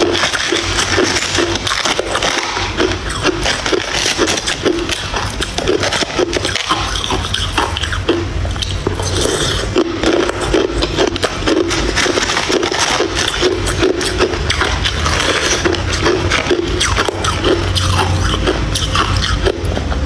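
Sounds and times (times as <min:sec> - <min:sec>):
metal spoon scraping ice: 0:00.0 - 0:08.0, 0:08.6 - 0:19.5
ice cubes being crunched: 0:00.0 - 0:19.6.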